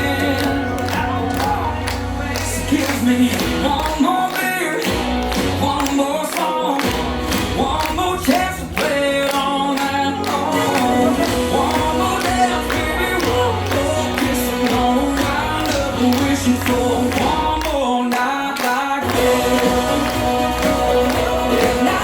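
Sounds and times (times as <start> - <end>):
bass: 0.0 - 6.1, 6.8 - 17.9, 19.0 - 22.0
drum beat: 0.0 - 18.3, 19.0 - 22.0
person singing: 0.0 - 22.0.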